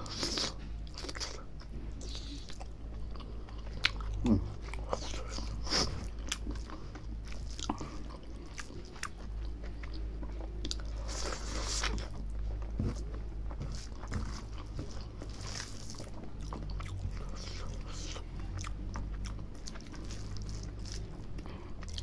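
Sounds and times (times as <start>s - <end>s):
chewing and mouth smacking: 0.0s - 22.0s.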